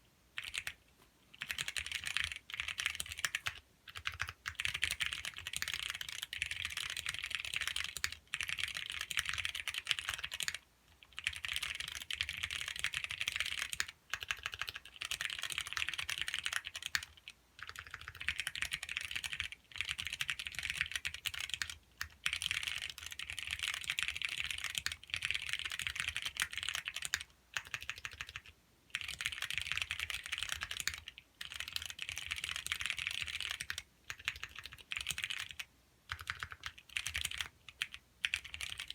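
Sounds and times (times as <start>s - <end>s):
keyboard typing clicks: 1.4s - 38.9s.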